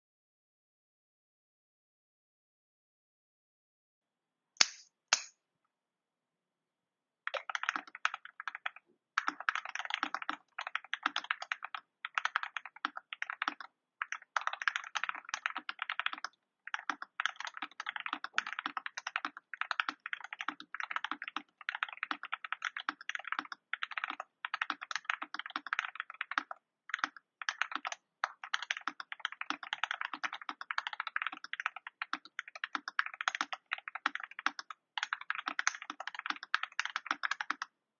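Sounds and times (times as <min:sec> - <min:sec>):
mechanical keyboard typing: 0:07.3 - 0:37.7.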